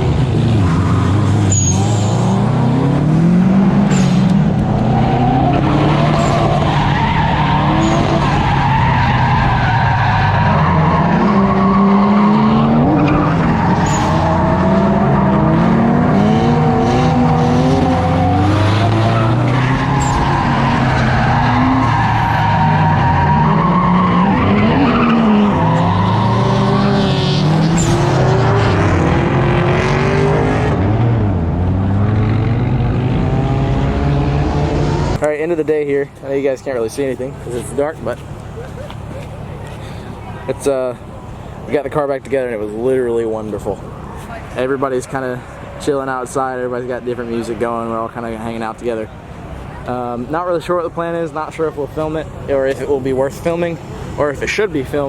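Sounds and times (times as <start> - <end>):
car engines revving: 0.0 - 55.0
tyres skidding: 0.0 - 55.0.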